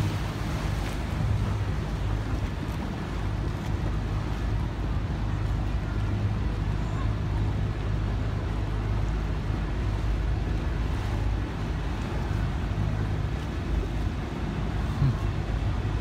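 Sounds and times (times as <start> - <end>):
boat engine humming: 0.0 - 16.0
water wash: 0.0 - 16.0.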